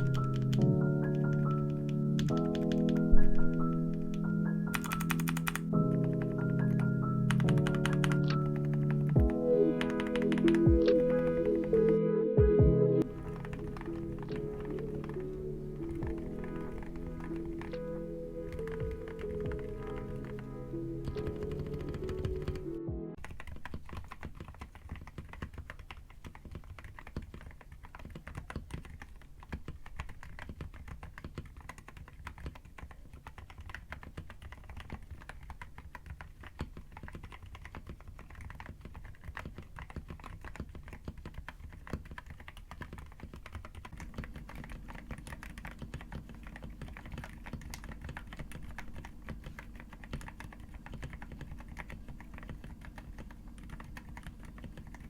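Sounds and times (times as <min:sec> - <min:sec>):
mechanical keyboard typing: 0:00.0 - 0:11.9, 0:13.0 - 0:55.0.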